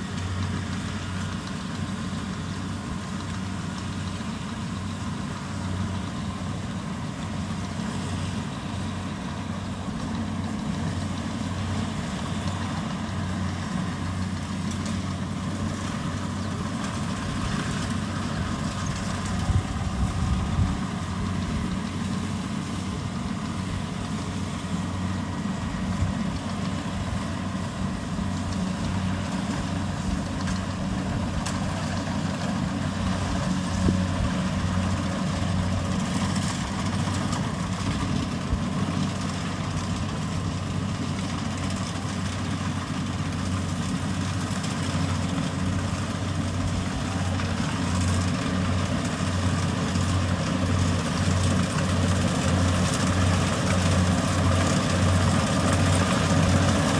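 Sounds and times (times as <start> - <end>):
diesel engine humming: 0.0 - 56.9.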